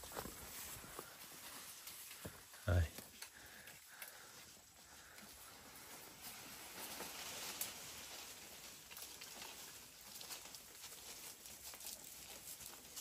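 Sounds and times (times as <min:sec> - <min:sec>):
goats rustling through vegetation: 0:00.0 - 0:13.0.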